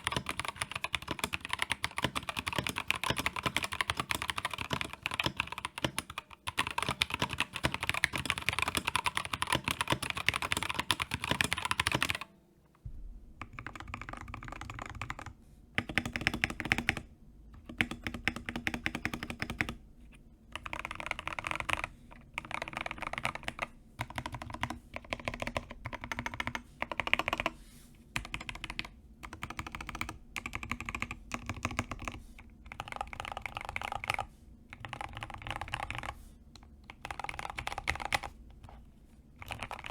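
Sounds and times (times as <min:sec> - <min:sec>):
typing on a keyboard: 0:00.0 - 0:12.3, 0:13.4 - 0:17.0, 0:17.6 - 0:19.8, 0:20.5 - 0:27.5, 0:28.2 - 0:38.4, 0:39.4 - 0:39.9.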